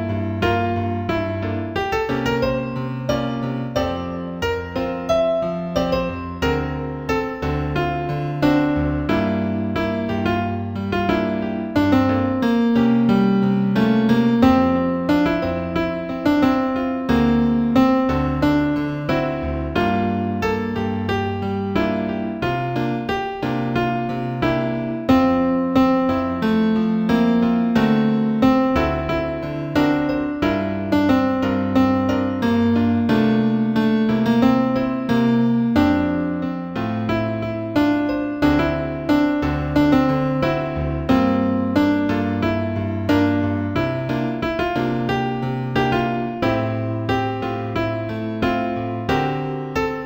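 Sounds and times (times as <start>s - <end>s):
new-age keyboard piece: 0.0s - 50.0s.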